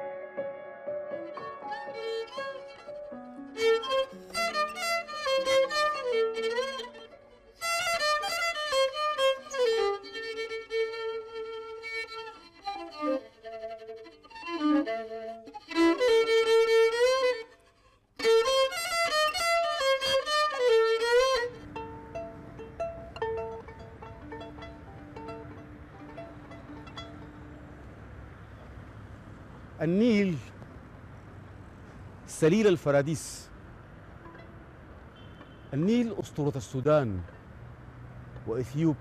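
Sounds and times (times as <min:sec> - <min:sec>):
violin melody: 0:00.9 - 0:30.6, 0:32.3 - 0:36.8.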